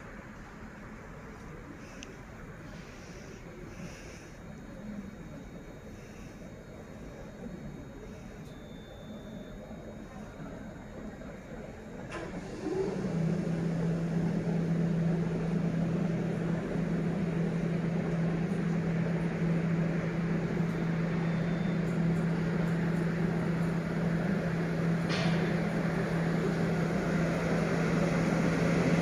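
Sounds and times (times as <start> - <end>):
electric locomotive hum: 0.0 - 29.0.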